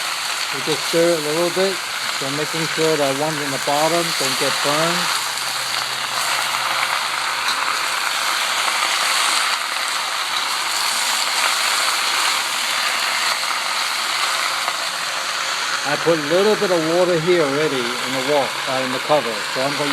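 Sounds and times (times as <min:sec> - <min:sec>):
vegetables sizzling in a wok: 0:00.0 - 0:19.9.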